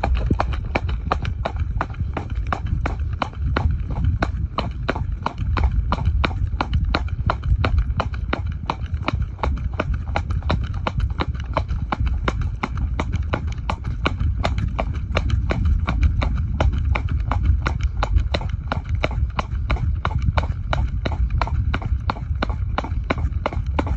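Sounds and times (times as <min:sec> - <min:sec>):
horse hooves clip-clop on tarmac: 0:00.0 - 0:23.9
steady low rumble: 0:00.0 - 0:23.9.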